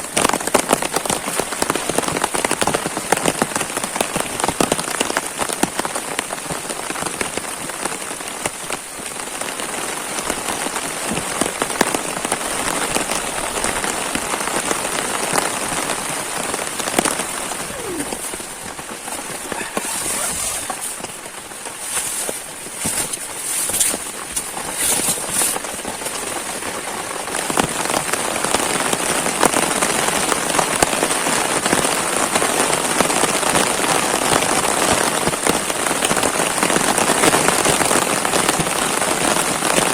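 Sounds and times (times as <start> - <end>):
heavy rain on a surface: 0.0 - 39.9.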